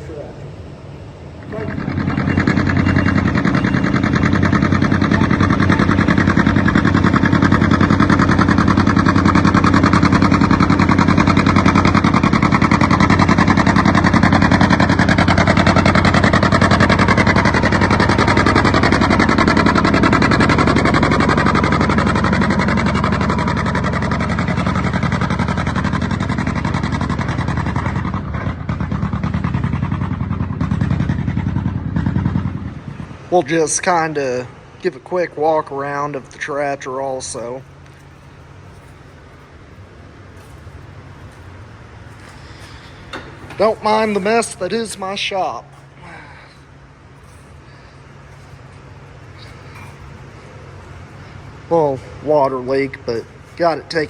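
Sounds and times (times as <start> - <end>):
tractor engine running flat out: 0.0 - 54.0.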